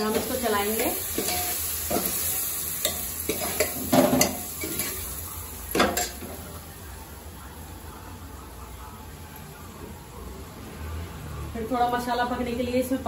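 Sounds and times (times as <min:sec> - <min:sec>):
masala sizzling: 0:00.0 - 0:13.0.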